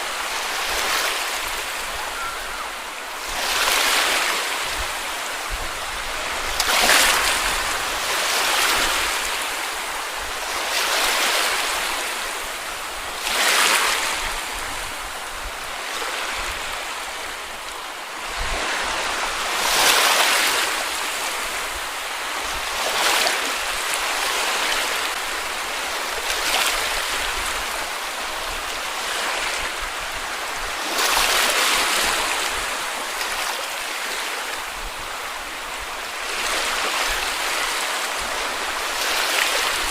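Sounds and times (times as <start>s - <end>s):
sea waves washing onto sand: 0.0s - 39.9s.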